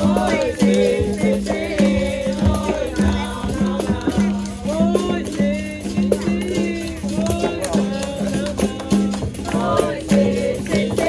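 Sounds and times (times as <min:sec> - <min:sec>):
shaker rattling: 0:00.0 - 0:11.0
voices singing: 0:00.0 - 0:11.0.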